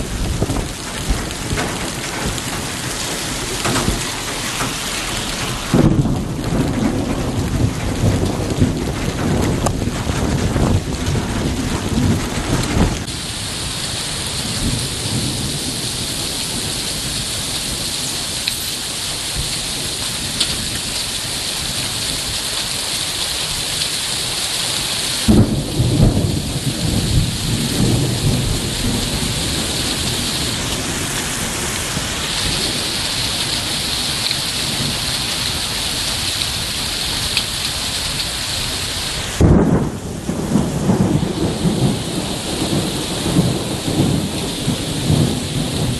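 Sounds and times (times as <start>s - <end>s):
thunderclap rumbling: 0.0s - 23.8s, 25.0s - 45.9s
heavy rain falling: 0.0s - 45.9s.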